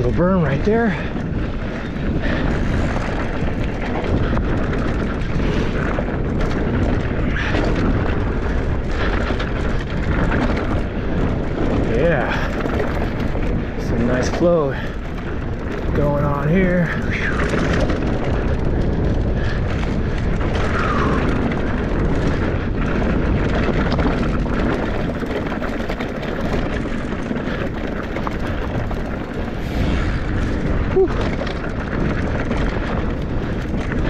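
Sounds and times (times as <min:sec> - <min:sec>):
bike tyre rumble and rattle: 0:00.0 - 0:34.0
wind rush on microphone: 0:00.0 - 0:34.0.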